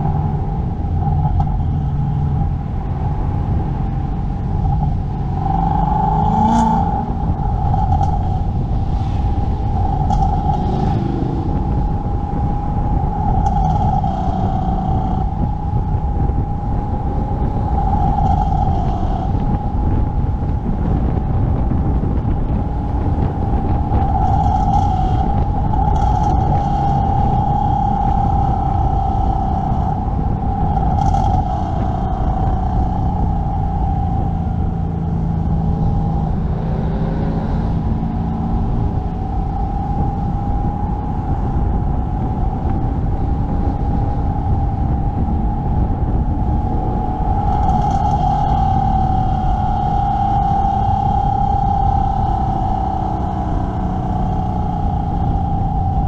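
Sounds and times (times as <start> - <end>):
car engine and road rumble: 0.0 - 56.0
steady whine: 0.0 - 56.0.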